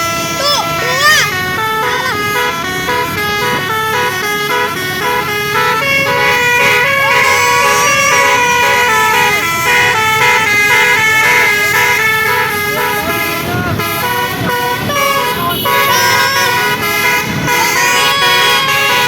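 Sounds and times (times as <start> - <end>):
musical air horns playing a tune: 0.0 - 19.0.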